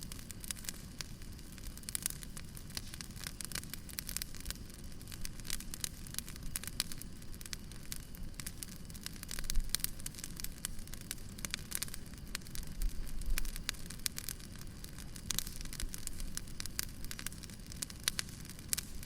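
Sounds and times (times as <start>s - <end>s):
firewood crackling: 0.0s - 19.0s.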